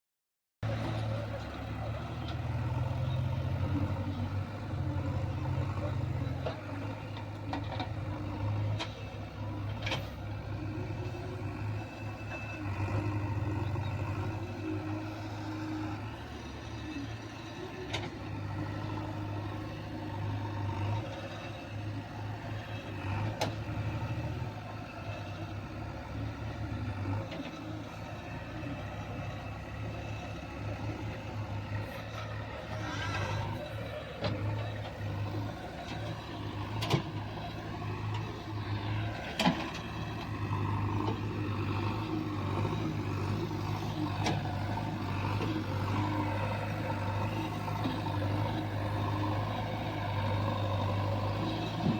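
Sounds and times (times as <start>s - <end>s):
heavy diesel engine under load: 0.6s - 51.9s.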